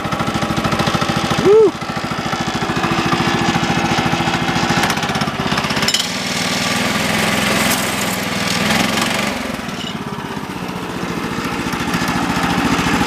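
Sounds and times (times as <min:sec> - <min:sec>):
gasoline engine running: 0:00.0 - 0:13.0.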